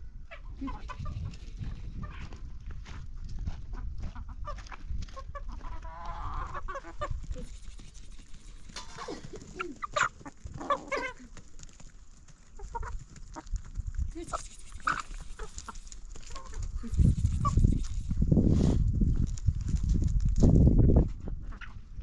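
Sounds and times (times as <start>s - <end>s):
chickens clucking: 0.2s - 18.2s, 21.0s - 22.0s.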